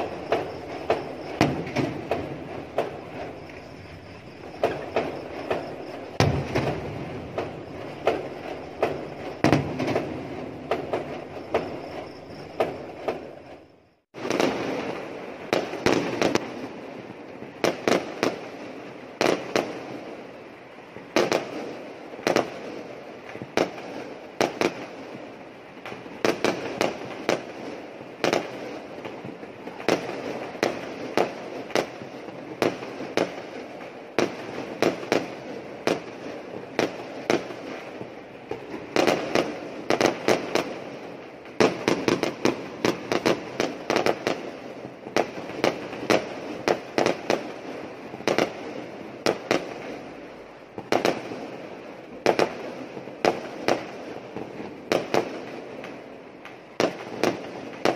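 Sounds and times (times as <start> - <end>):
fireworks bangs and pops: 0.0 - 57.9
fireworks crackle: 0.0 - 57.9.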